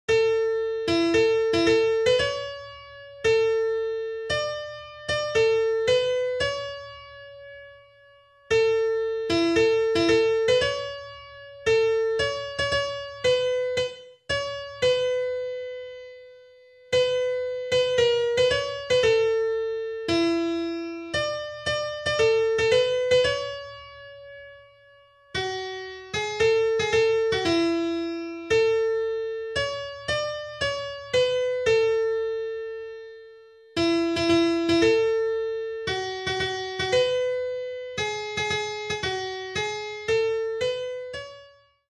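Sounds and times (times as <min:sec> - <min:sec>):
slow solo keyboard melody: 0:00.1 - 0:41.9.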